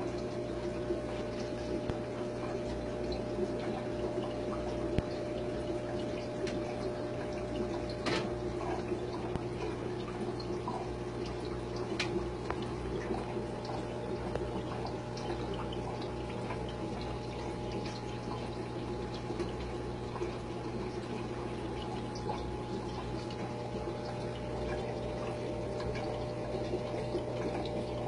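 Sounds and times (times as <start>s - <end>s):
low motor hum: 0.0s - 28.0s
small drips and ticks: 0.0s - 28.0s
water running and trickling: 0.0s - 28.0s.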